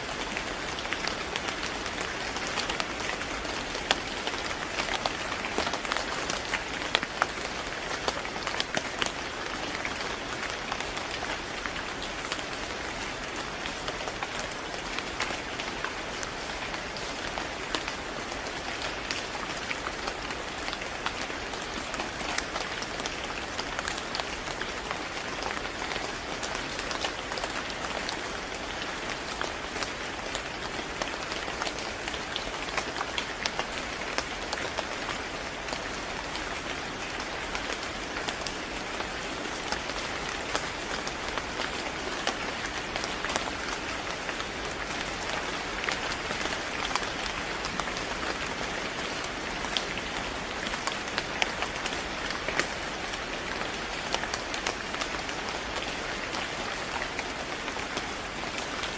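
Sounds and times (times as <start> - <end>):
rain falling on a surface: 0.0 - 58.9.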